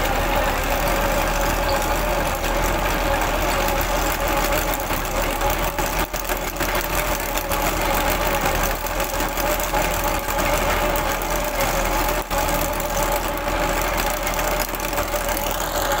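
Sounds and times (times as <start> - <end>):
tractor diesel engine running: 0.0 - 16.0
trencher whine: 0.0 - 16.0.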